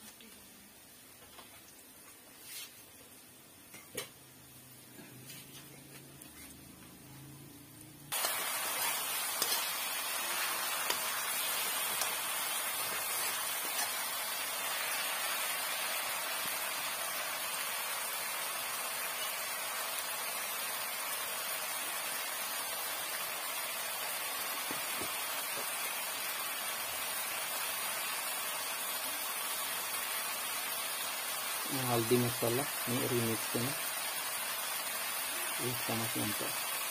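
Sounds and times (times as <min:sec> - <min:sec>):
food sizzling in hot oil: 0:05.6 - 0:36.9.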